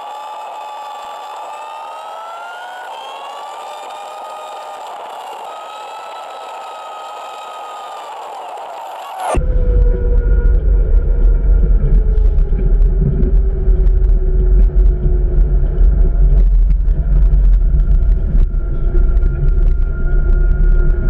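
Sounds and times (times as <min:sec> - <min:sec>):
drivetrain whine: 0:00.0 - 0:21.0.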